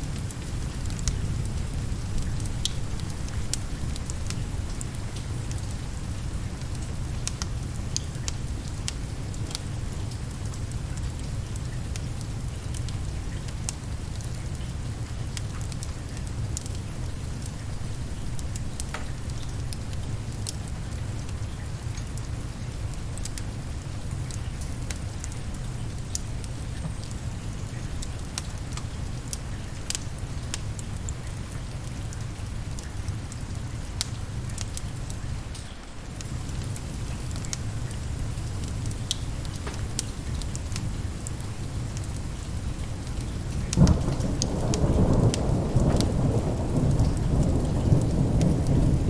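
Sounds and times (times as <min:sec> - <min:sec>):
steady rain: 0:00.0 - 0:49.0
wood fire crackling: 0:00.0 - 0:49.0.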